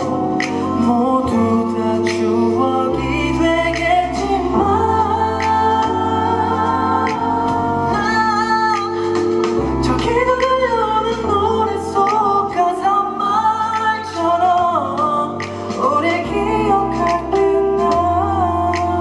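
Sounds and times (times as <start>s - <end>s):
man singing: 0.0s - 6.4s, 9.7s - 19.0s
bass line: 0.0s - 19.0s
keyboard chords: 0.0s - 19.0s.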